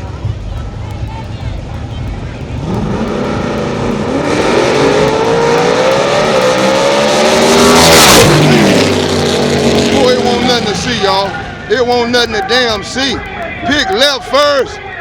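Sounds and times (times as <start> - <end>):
drag racing cars accelerating: 0.2 - 14.4.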